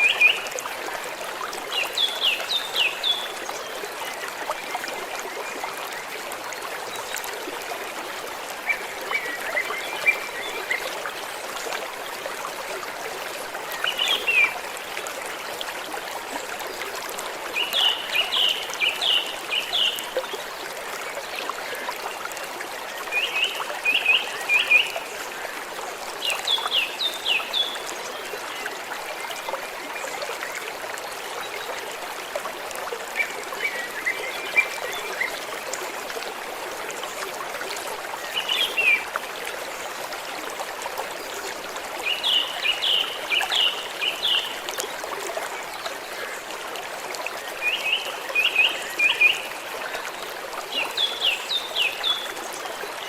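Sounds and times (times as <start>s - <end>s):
stream water flowing gently: 0.0s - 53.0s.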